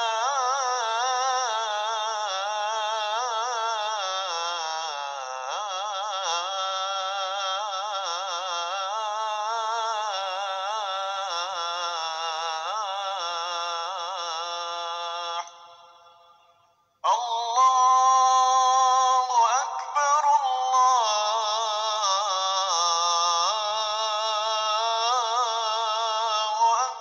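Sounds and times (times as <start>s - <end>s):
man chanting call to prayer: 0.0s - 16.1s, 17.0s - 27.0s.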